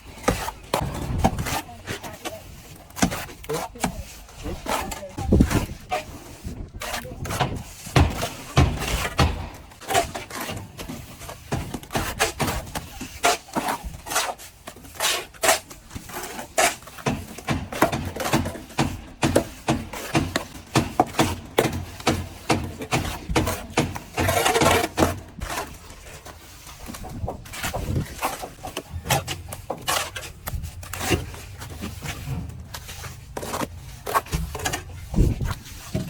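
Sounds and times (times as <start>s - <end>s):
plastering tools knocking and scraping: 0.1s - 36.0s.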